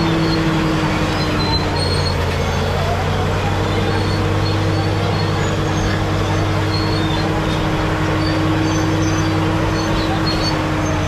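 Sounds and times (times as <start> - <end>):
short high squeaks: 0.0 - 2.8, 3.8 - 11.0
bulldozer diesel engine running: 0.0 - 11.0.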